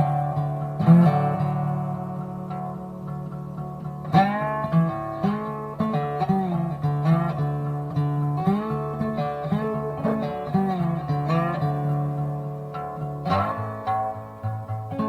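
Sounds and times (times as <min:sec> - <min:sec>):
acoustic guitar picking with slides: 0:00.0 - 0:15.0.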